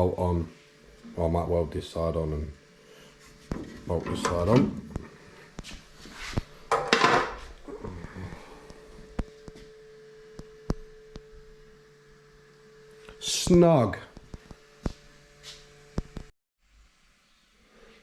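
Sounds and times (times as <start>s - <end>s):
faint hum tone: 0.0s - 17.7s.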